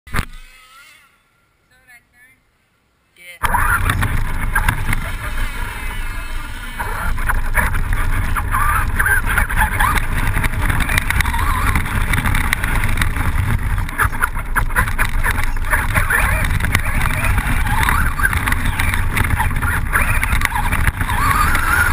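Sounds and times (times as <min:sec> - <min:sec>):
electric motor whine: 0:03.4 - 0:21.9
tyres and chassis rattling: 0:03.4 - 0:21.9.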